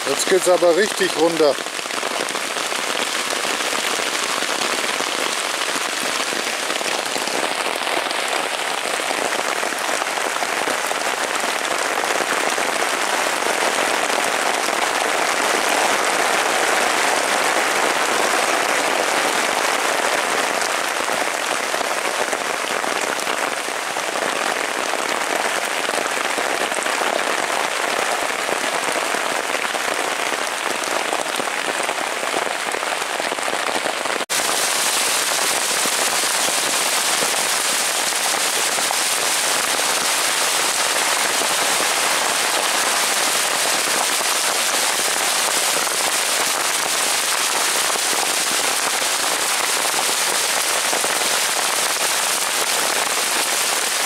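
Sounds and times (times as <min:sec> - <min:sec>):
heavy rain on tent fabric: 0:00.0 - 0:54.0.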